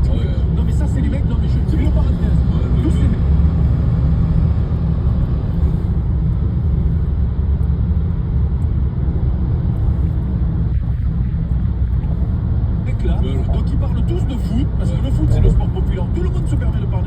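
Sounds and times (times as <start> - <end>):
road and engine noise in car: 0.0 - 17.0.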